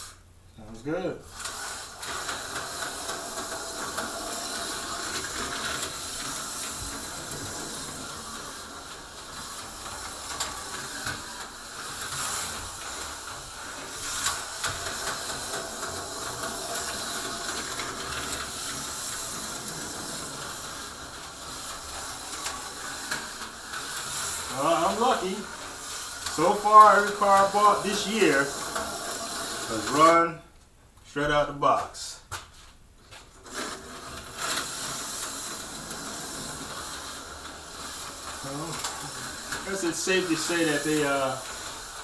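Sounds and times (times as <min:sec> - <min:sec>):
slot car motor buzzing hiss: 0:01.3 - 0:30.2, 0:33.4 - 0:42.0.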